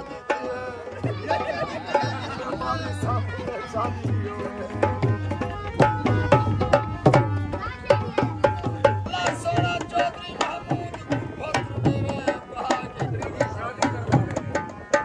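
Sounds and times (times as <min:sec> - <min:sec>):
harmonium chords: 0:00.0 - 0:15.0.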